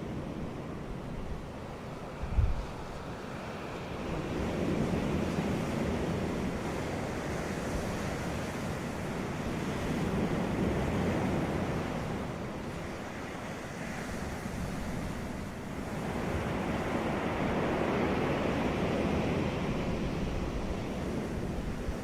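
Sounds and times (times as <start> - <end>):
sea waves breaking on beach: 0.0 - 22.0
wind rumble on microphone: 0.0 - 22.0.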